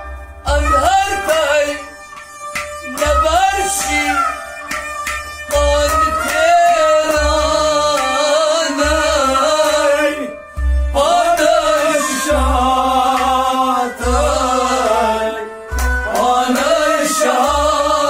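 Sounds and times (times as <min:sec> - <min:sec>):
goblet drum beating: 0:00.0 - 0:17.8
harmonium notes: 0:00.0 - 0:18.0
rabab: 0:00.0 - 0:18.0
men singing: 0:00.5 - 0:01.9, 0:02.8 - 0:04.4, 0:05.5 - 0:18.0.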